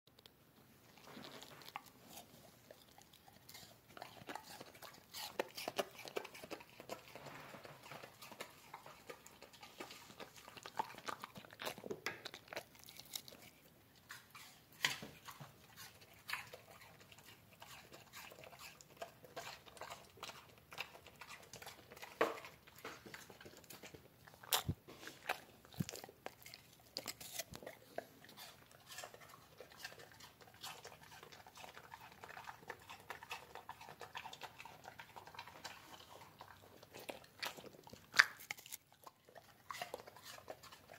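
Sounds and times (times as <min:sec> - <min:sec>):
dog chewing and crunching: 0:00.2 - 0:40.9.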